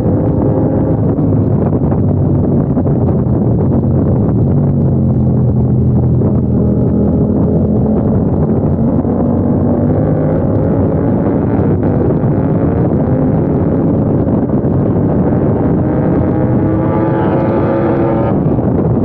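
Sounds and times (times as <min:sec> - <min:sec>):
motorcycle engine running hard: 0:00.0 - 0:19.0
wind rushing over microphone: 0:00.0 - 0:19.0.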